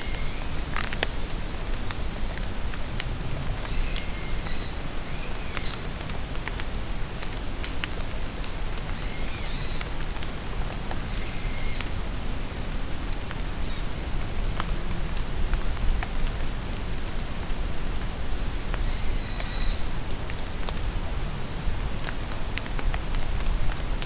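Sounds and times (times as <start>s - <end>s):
rain pattering in forest: 0.0s - 24.0s.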